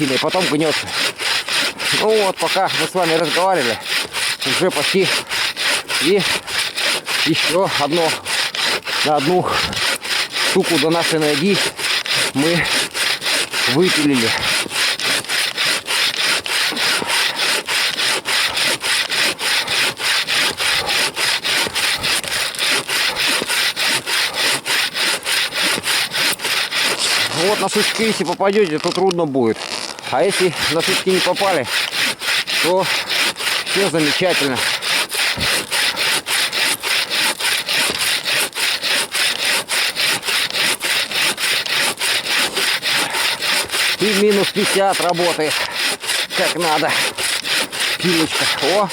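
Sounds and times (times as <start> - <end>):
bow saw cutting wood: 0.0 - 48.9.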